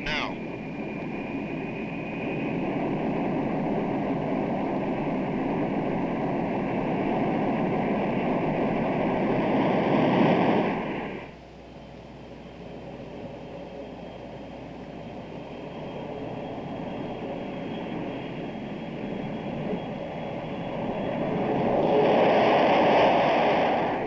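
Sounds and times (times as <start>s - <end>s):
jet engines roaring at takeoff: 0.0s - 24.0s.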